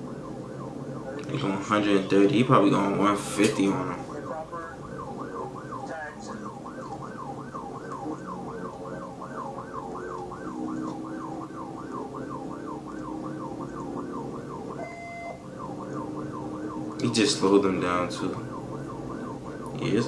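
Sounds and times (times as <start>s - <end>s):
car road and engine noise: 0.0s - 20.0s
police siren yelping: 0.0s - 20.0s.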